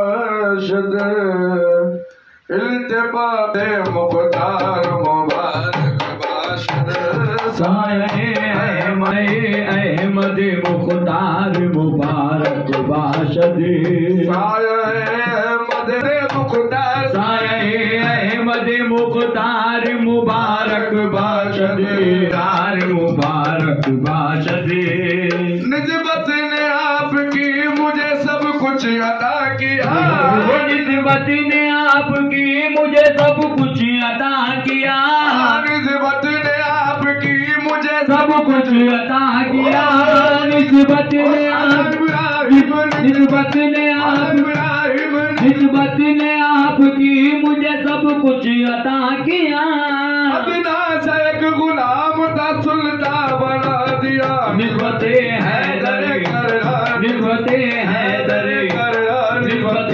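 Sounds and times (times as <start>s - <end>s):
person singing devotional song: 0.0s - 59.9s
hand drum percussion: 3.6s - 48.9s, 50.3s - 59.9s
instrumental accompaniment: 3.6s - 49.3s, 50.3s - 59.9s.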